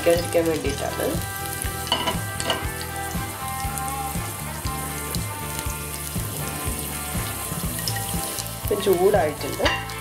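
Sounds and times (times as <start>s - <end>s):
background music with steady beat: 0.0s - 10.0s
leaves sizzling in hot oil: 0.0s - 10.0s.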